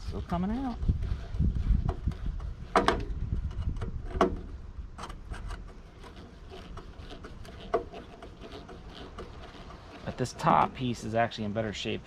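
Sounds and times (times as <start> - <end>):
low rumble of handling: 0.0 - 11.2.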